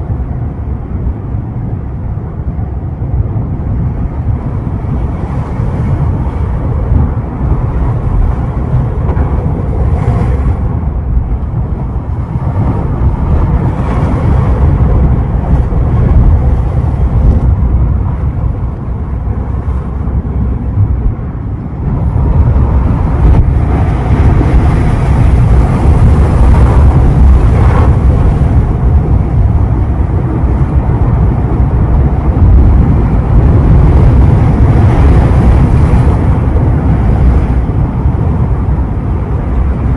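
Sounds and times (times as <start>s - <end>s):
sea surf washing ashore: 0.0s - 39.9s
wind buffeting microphone: 0.0s - 39.9s.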